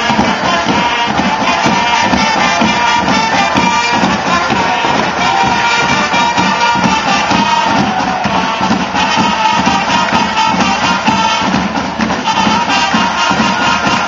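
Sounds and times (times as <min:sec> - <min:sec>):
drums keeping steady beat: 0:00.0 - 0:14.0
marching band playing: 0:00.0 - 0:14.0.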